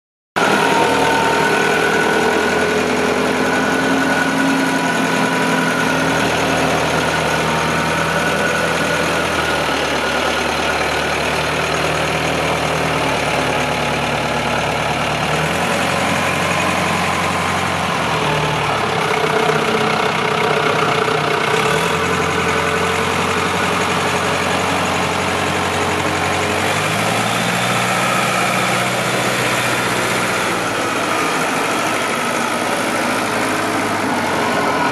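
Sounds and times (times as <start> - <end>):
wheel loader engine running: 0.4 - 34.9.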